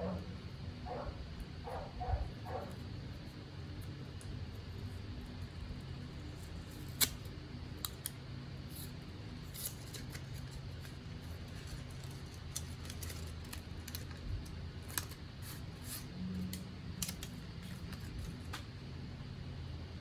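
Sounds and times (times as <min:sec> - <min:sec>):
steady low hum: 0:00.0 - 0:20.0
packaging clicks and scrapes: 0:02.5 - 0:18.7.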